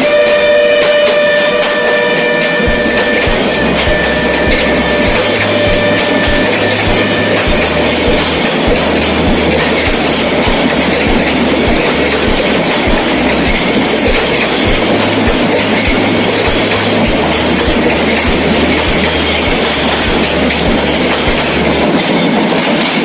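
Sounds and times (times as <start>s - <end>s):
train rumbling past: 0.0s - 23.0s
wheels clacking over rail joints: 0.0s - 23.0s.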